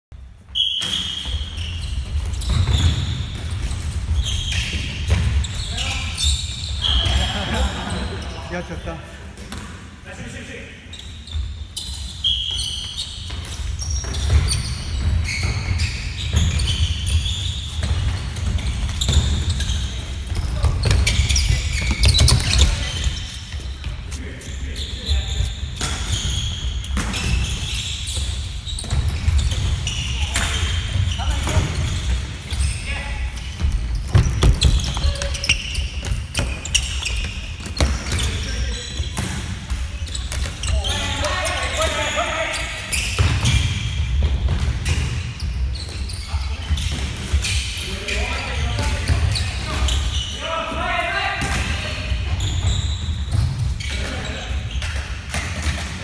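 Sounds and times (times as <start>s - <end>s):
sneakers squeaking on wooden floor: 0.4s - 8.8s, 10.7s - 56.0s.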